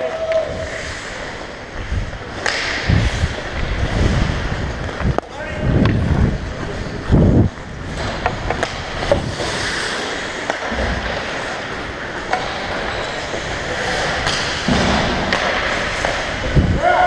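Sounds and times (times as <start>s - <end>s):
skate blades scraping ice: 0.0s - 17.0s.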